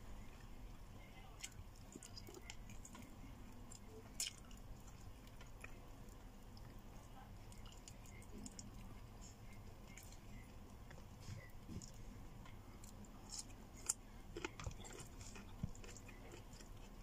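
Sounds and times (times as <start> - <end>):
person chewing meat: 0.1 - 17.0.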